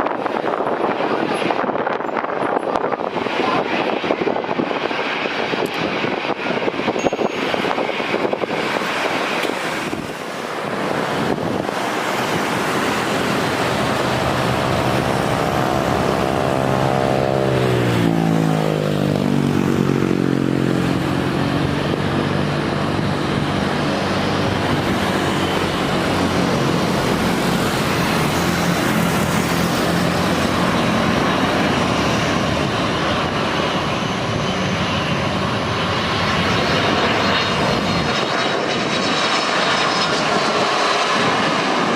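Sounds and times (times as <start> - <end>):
jet airliner passing: 0.0 - 41.9.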